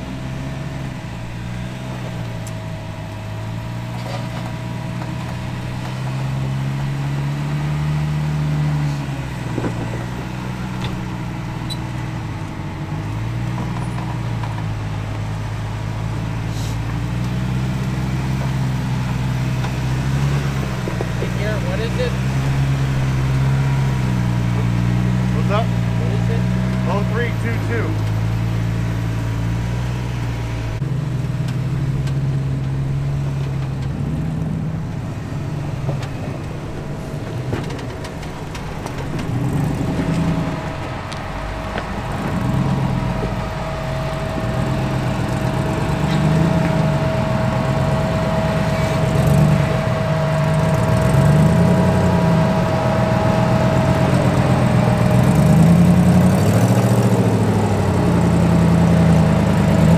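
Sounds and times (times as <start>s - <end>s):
thin steady whine: 0.0s - 30.8s, 32.0s - 59.1s
engine revving: 0.0s - 59.9s.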